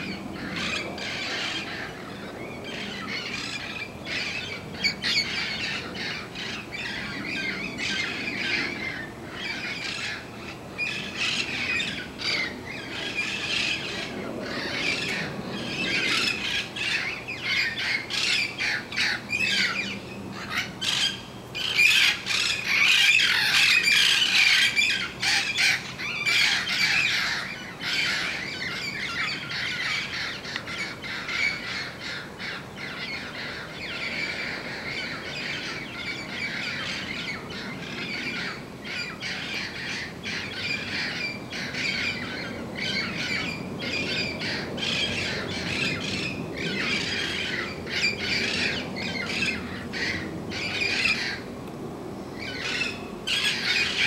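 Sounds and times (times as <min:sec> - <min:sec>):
parrots squawking: 0:00.0 - 0:51.4, 0:52.4 - 0:54.0.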